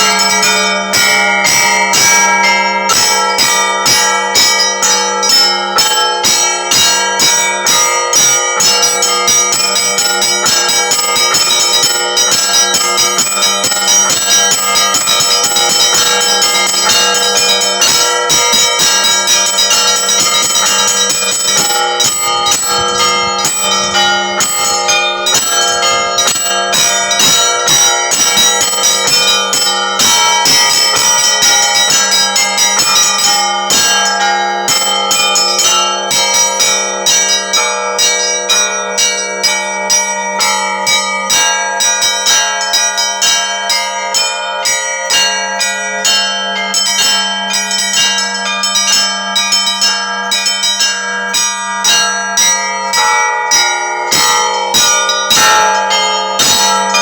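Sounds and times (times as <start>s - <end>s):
large bell low hum: 0.0s - 57.0s
small church bells ringing: 0.0s - 57.0s.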